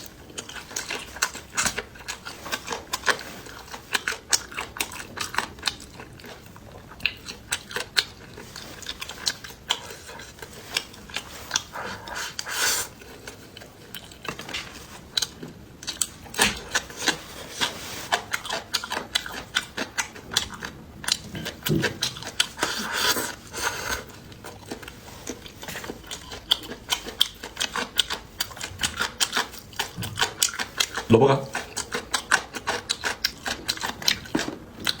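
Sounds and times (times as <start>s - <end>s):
person chewing and crunching: 0.0s - 35.0s.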